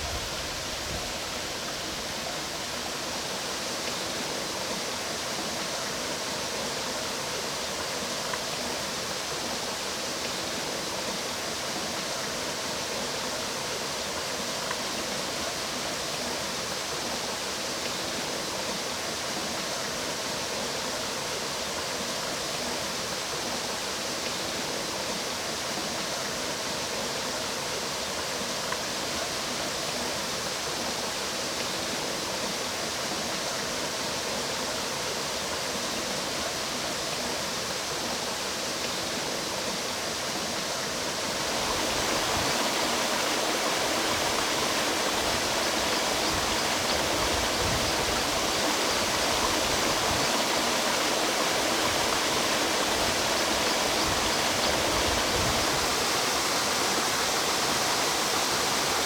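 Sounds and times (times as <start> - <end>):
mountain stream flowing: 0.0 - 59.0.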